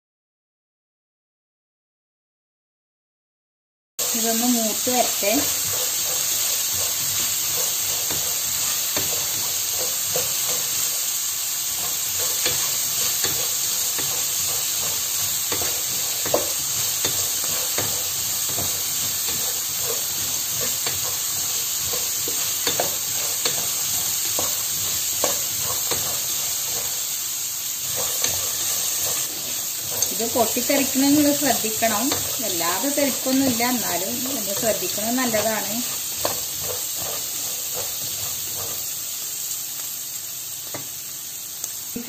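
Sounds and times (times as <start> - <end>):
spatula scraping the pan: 4.0 - 39.6
peas sizzling in a pot: 4.0 - 42.0.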